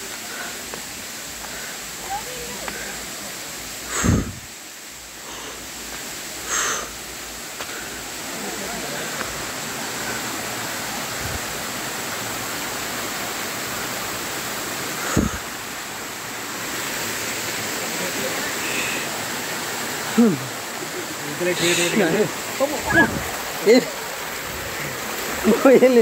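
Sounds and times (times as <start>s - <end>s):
stream and waterfall rushing: 0.0s - 26.0s.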